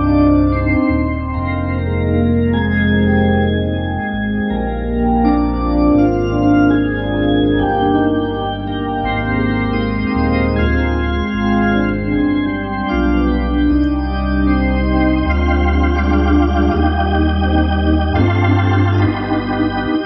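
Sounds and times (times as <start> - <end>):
bass line: 0.0 - 20.0
organ playing sustained chords: 0.0 - 20.0.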